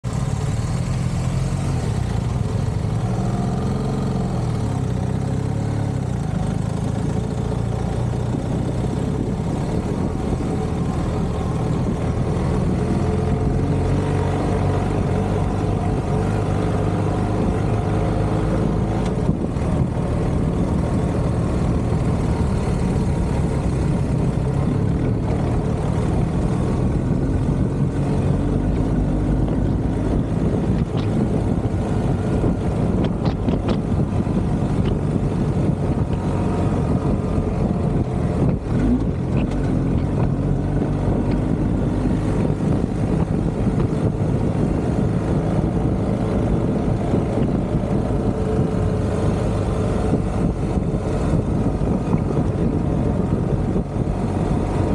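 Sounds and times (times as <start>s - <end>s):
motorcycle engine running: 0.0s - 54.9s
wind and tyre noise: 0.0s - 54.9s.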